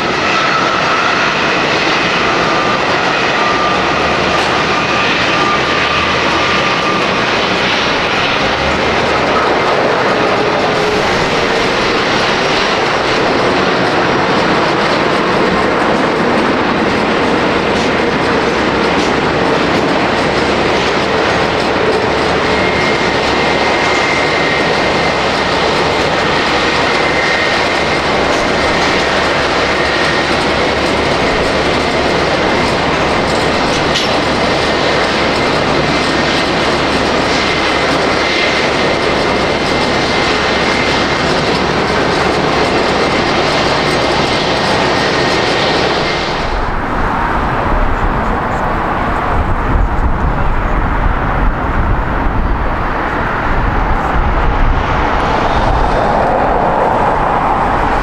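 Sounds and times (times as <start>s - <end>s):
jet engine rushing whine: 0.0s - 58.0s.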